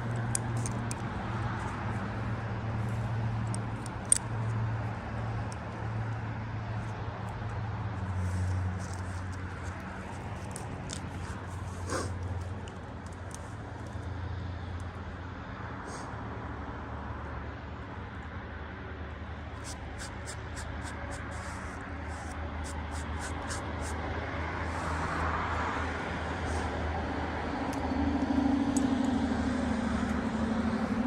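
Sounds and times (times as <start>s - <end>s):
engine hum: 0.0s - 31.0s.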